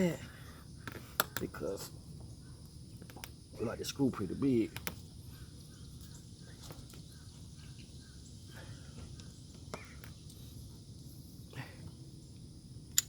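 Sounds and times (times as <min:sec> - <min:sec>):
faint bird chirps: 0:00.0 - 0:03.2, 0:04.4 - 0:12.5.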